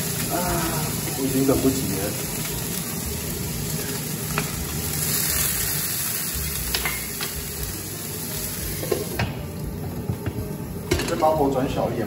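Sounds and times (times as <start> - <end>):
meatballs sizzling in hot oil: 0.0 - 12.0.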